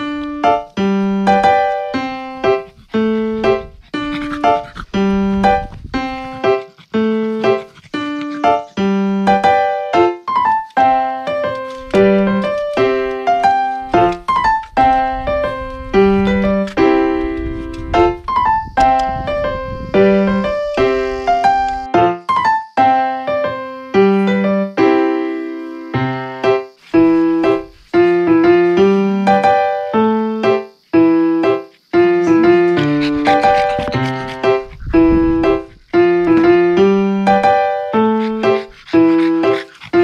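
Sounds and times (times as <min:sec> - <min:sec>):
light piano melody: 0:00.0 - 0:40.0.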